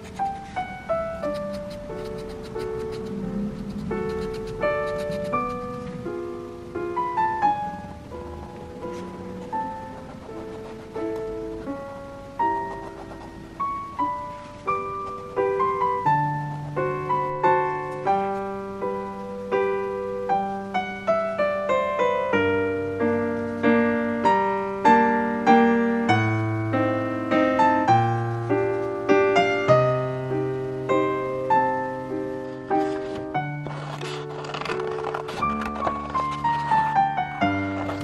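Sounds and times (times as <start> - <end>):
background piano music: 0.0 - 38.0.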